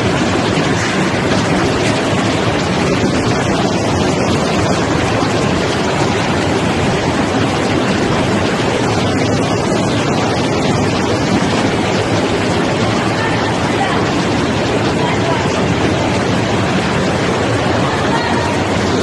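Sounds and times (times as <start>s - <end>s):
peeling machine running: 0.0s - 19.0s
water spraying: 0.0s - 19.0s.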